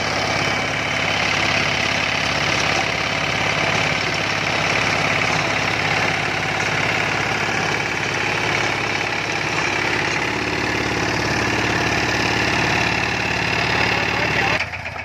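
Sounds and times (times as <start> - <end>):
rotavator churning soil: 0.0 - 14.6
diesel engine running under load: 0.0 - 15.0.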